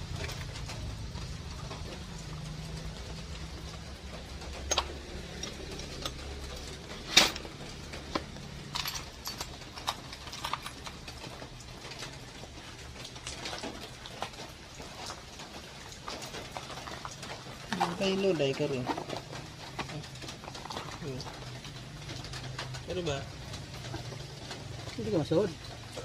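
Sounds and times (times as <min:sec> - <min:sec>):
tools and metal parts clicking: 0:00.0 - 0:26.0.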